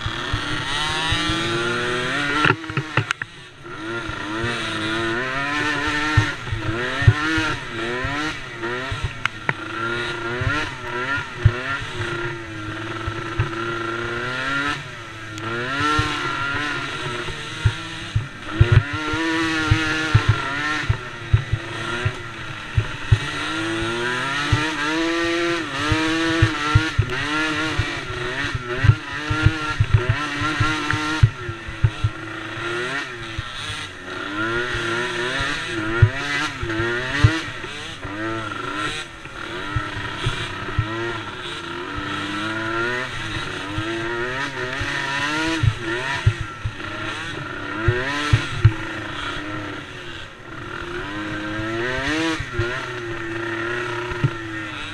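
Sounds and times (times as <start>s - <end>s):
small atv engines revving: 0.0s - 54.9s.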